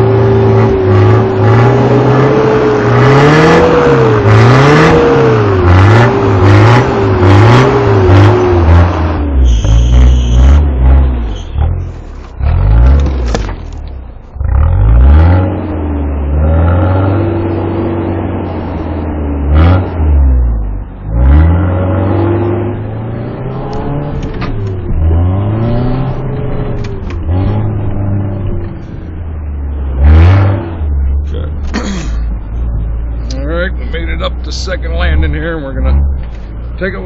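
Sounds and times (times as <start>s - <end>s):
vehicle engine revving: 0.0s - 37.0s.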